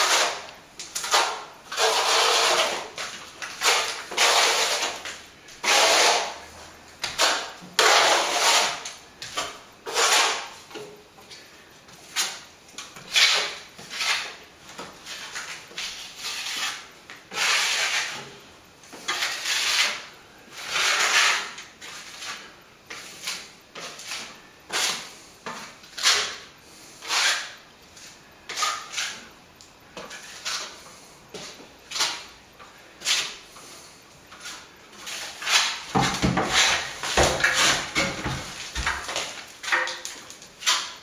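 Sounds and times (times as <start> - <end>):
trowel scraping wet plaster: 0.0 - 6.4, 7.0 - 10.6, 12.1 - 18.4, 19.0 - 27.6, 28.5 - 29.3, 30.0 - 32.4, 33.0 - 41.0.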